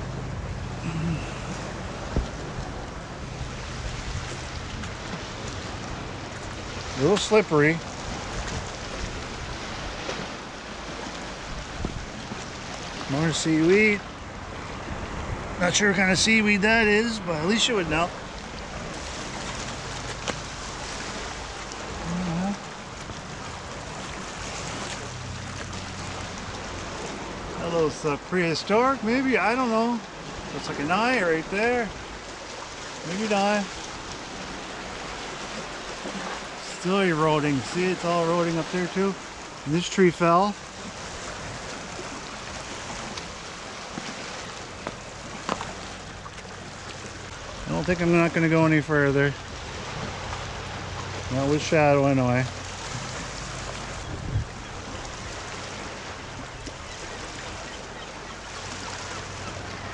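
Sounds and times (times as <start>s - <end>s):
surf on shoreline: 0.0s - 59.9s
wind: 0.0s - 59.9s
sea water washing on rocks: 0.7s - 57.7s.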